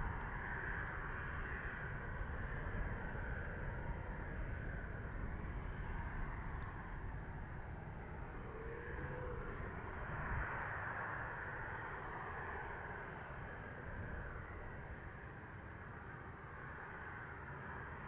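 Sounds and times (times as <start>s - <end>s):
distant jet engine hiss and rumble: 0.0s - 18.0s.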